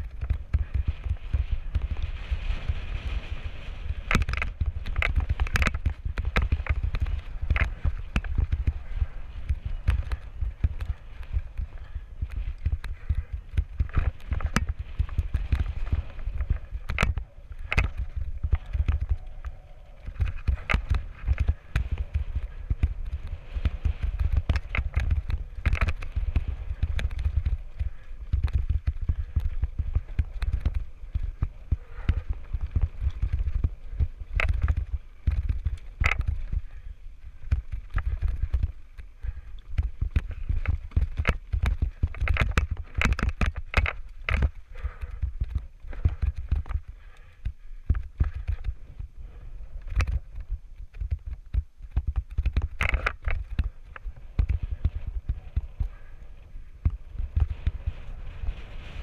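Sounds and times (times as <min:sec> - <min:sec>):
wind rumble on camera: 0:00.0 - 0:59.0
bike tyres knocking on rock: 0:03.9 - 0:48.8, 0:49.9 - 0:56.1.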